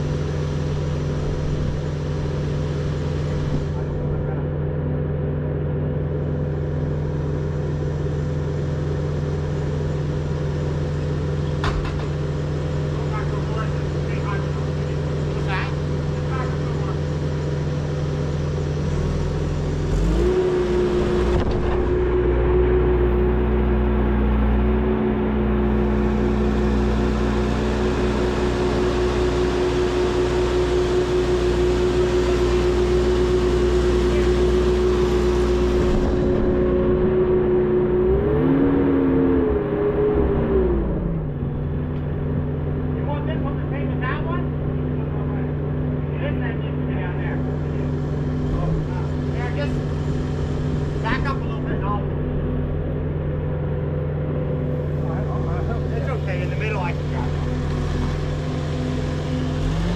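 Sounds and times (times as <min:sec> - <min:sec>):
engine idling: 0:00.0 - 0:37.2, 0:40.7 - 0:59.9.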